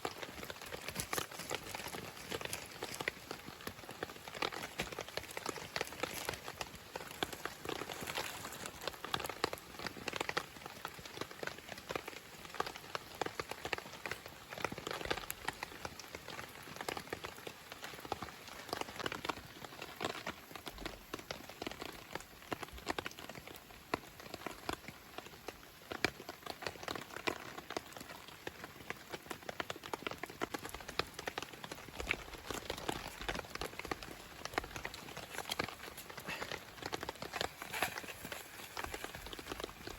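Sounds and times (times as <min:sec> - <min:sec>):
fire crackling and popping: 0:00.0 - 0:39.9
meat sizzling over campfire: 0:00.0 - 0:39.9.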